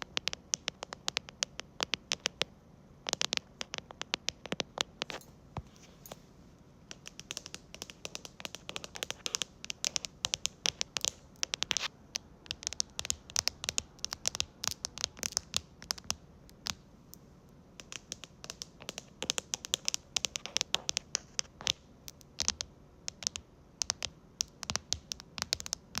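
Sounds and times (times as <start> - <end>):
fingernails tapping on keyboard: 0.0 - 5.2, 6.9 - 11.9, 12.5 - 16.2, 17.8 - 21.8, 22.4 - 26.0.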